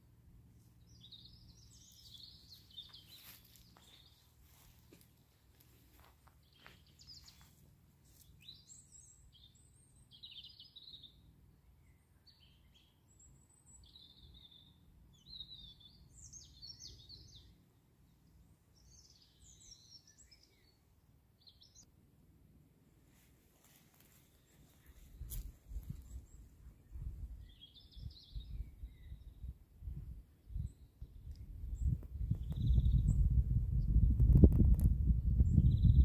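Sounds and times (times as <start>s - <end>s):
songbird chirping: 0.0s - 22.0s, 23.1s - 34.7s.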